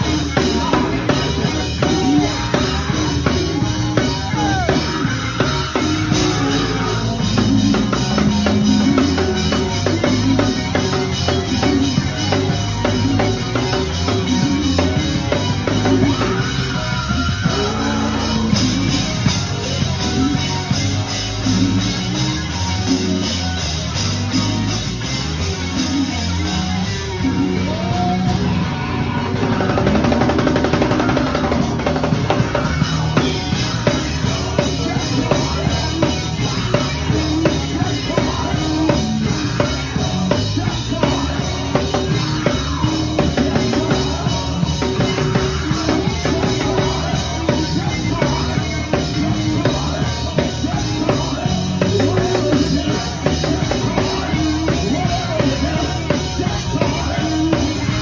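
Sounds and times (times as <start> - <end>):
bass line: 0.0 - 58.0
drum kit playing: 0.0 - 58.0
live band music: 0.0 - 58.0.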